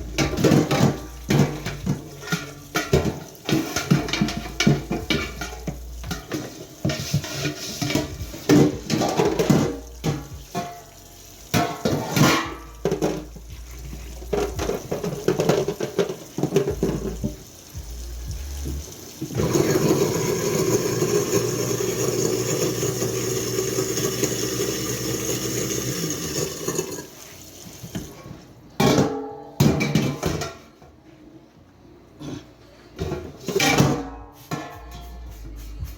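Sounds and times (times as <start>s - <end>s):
dishes clattering in sink: 0.0s - 17.8s, 18.6s - 31.0s, 32.2s - 35.4s.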